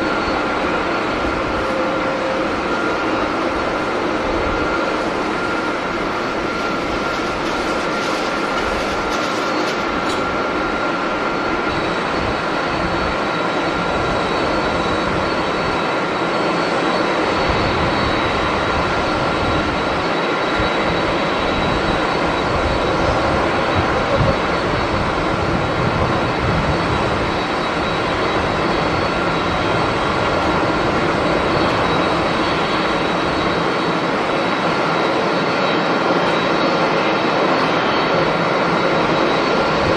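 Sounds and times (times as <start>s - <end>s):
high engine whine: 0.0s - 39.9s
jet engines roaring: 0.0s - 39.9s.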